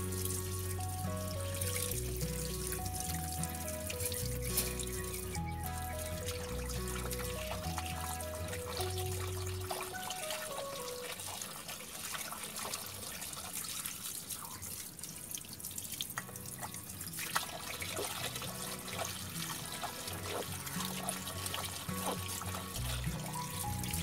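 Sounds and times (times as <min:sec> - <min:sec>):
water dripping: 0:00.0 - 0:24.0
water splashing from hose: 0:00.0 - 0:24.0.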